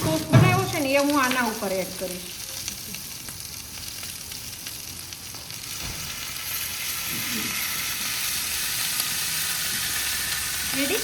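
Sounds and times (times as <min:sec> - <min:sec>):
food sizzling on hot plate: 0:00.0 - 0:11.0.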